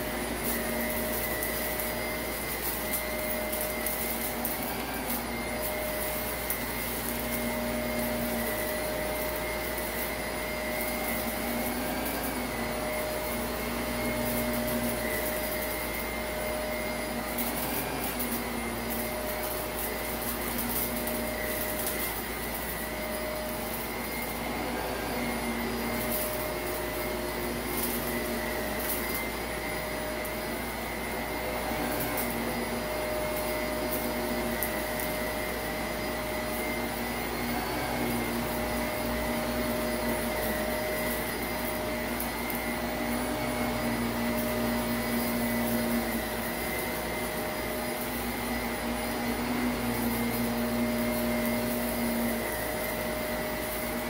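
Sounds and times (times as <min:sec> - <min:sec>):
grit crackling in vacuum: 0:00.0 - 0:54.0
vacuum cleaner whining: 0:00.0 - 0:54.0.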